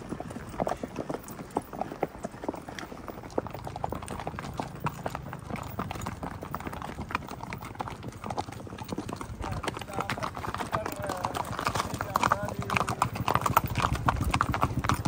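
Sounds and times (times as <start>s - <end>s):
horse hooves walking on dirt: 0.0s - 15.0s.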